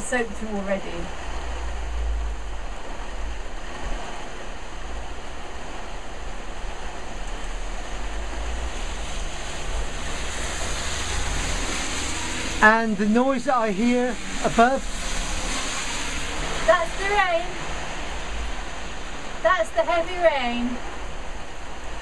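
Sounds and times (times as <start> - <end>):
wind rumbling on microphone: 0.0 - 19.4
heavy rain falling: 0.0 - 22.0.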